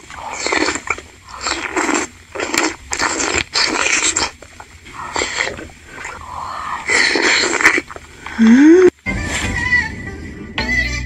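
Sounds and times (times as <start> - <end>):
chewing: 0.0 - 8.9
slurping broth: 0.0 - 8.9.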